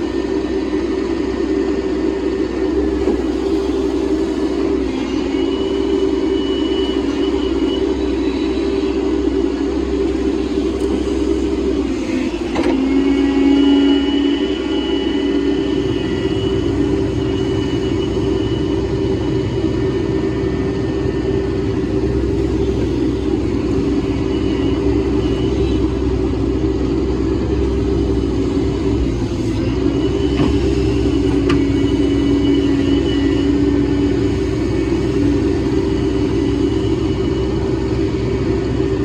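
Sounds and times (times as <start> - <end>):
excavator diesel engine running: 0.0 - 39.0
faint high whine: 0.0 - 39.0.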